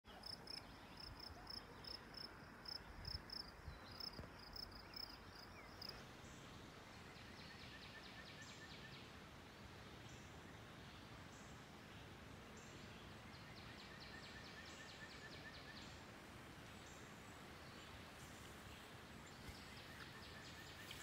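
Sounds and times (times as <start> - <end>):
soft steady hiss: 0.1 - 21.0.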